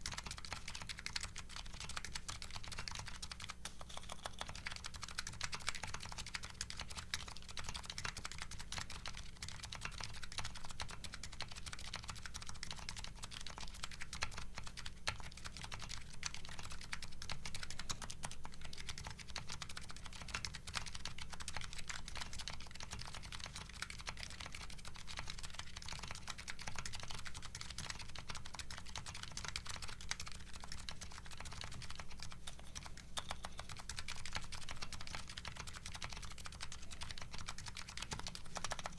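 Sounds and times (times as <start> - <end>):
keyboard typing clicks: 0.0 - 38.9.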